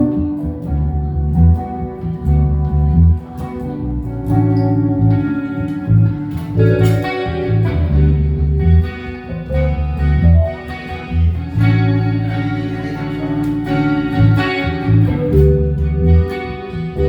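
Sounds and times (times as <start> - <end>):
low bass line: 0.0 - 17.0
plucked guitar music: 0.0 - 17.0.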